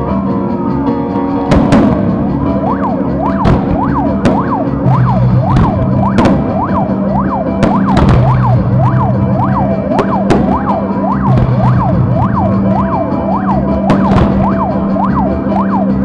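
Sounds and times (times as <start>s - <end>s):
fireworks bursting: 1.5s - 15.7s
emergency vehicle siren: 2.3s - 16.0s.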